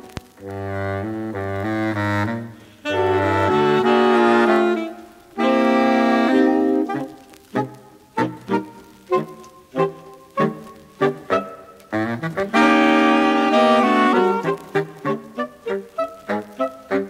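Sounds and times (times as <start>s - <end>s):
saxophone quartet playing: 0.0s - 17.0s.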